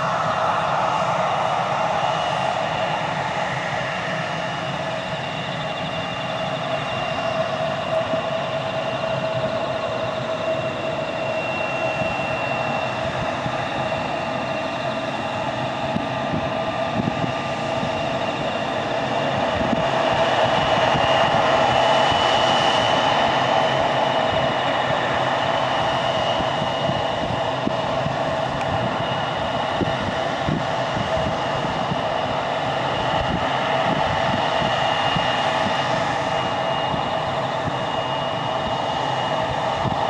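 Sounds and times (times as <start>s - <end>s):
jet engine whine: 0.0s - 40.0s.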